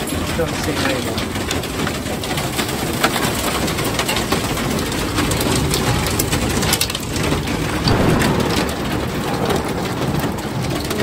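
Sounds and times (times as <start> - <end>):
heavy rain and hail on steel roof: 0.0 - 11.0.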